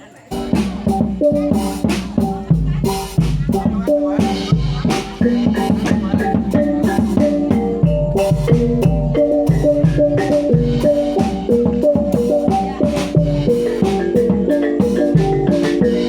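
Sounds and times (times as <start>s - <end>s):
drumming: 0.3s - 16.0s
struck tuned metal melody: 0.3s - 16.0s.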